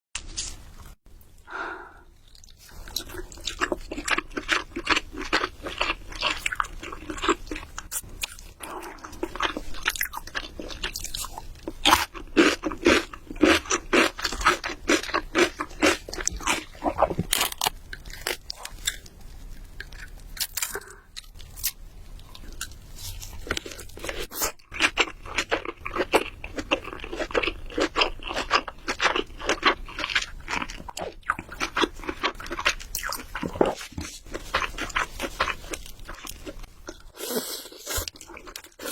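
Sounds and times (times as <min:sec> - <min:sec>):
crunchy food chewing: 0:02.2 - 0:38.9.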